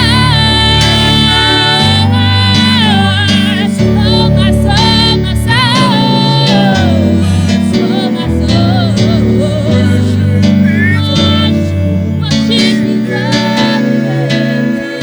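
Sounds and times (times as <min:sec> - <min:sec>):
guitar accompaniment: 0:00.0 - 0:15.0
held bass notes: 0:00.0 - 0:15.0
solo voice singing gospel: 0:00.0 - 0:15.0.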